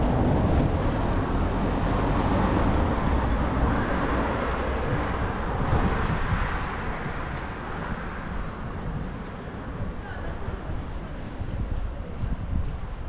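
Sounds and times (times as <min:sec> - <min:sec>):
passing vehicle rumble: 0:00.0 - 0:13.0.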